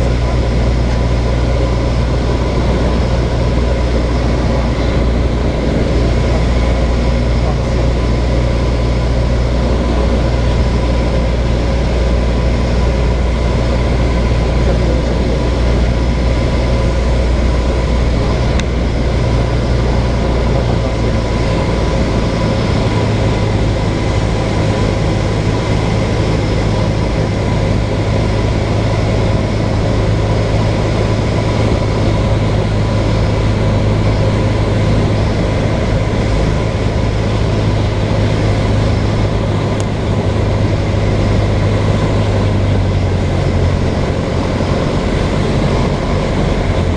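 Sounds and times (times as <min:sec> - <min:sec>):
light aircraft engine droning: 0:00.0 - 0:46.9.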